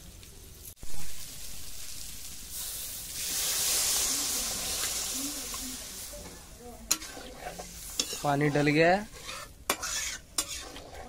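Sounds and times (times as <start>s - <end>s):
water hissing in a hot pan: 0.0s - 11.0s.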